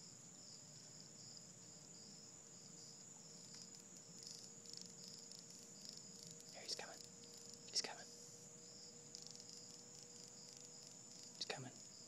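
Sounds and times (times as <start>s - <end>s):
faint low hum: 0.0s - 12.0s
night insects trilling: 0.0s - 12.0s.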